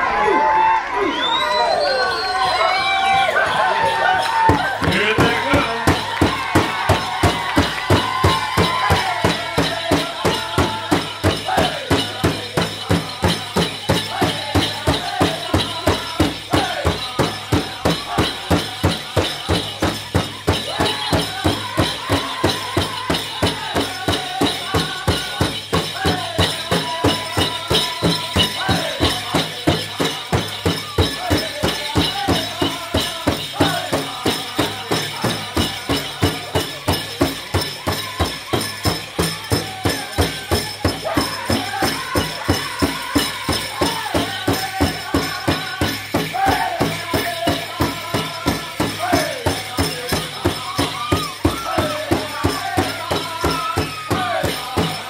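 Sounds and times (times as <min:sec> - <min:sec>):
jingling bells: 0:02.0 - 0:55.0
group singing in wavering voices: 0:02.3 - 0:55.0
fast steady drumbeat: 0:04.3 - 0:55.0.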